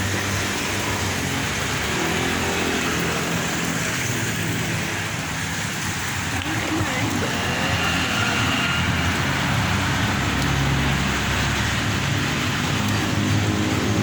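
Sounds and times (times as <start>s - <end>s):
passing vehicles hiss: 0.0s - 14.0s
vehicle engine humming: 0.0s - 14.0s.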